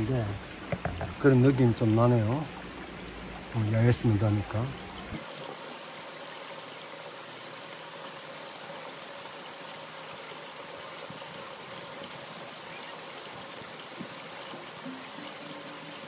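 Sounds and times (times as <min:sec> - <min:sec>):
stream flowing over rocks: 0:00.0 - 0:16.0.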